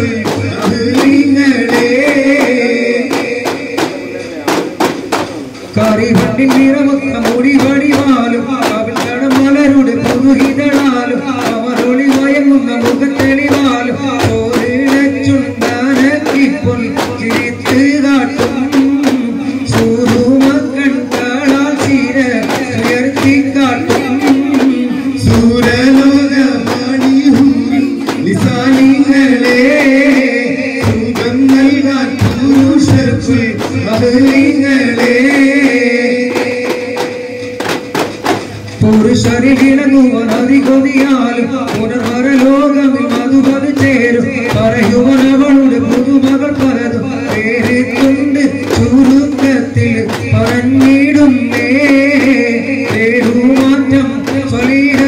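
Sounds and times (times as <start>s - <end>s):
devotional singing: 0.0s - 55.0s
frame drums beating: 0.0s - 55.0s.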